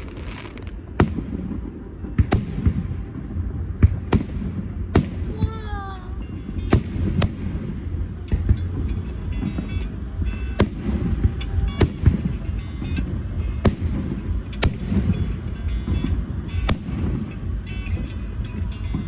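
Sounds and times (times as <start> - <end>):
fireworks bangs: 0.0 - 19.0
fireworks crackling: 0.0 - 19.0
low booming rumble: 0.0 - 19.0.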